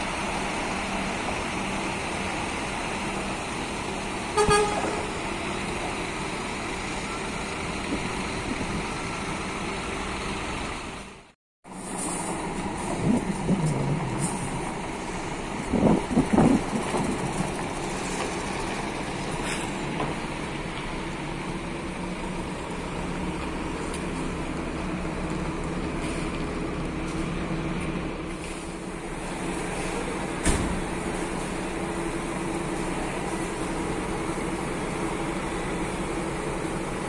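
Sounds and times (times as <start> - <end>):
diesel coach engine idling: 0.0 - 11.4, 12.4 - 37.0.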